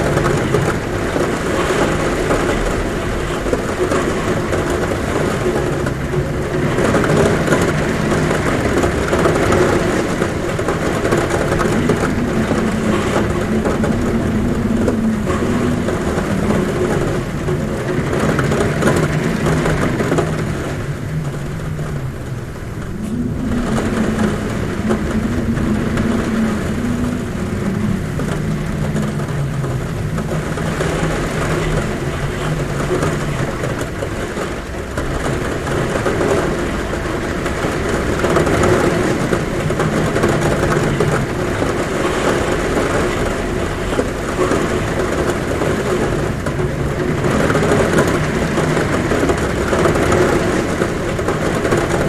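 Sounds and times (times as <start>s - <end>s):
heavy rain on a roof: 0.0s - 52.0s
wind droning at window: 0.0s - 52.0s.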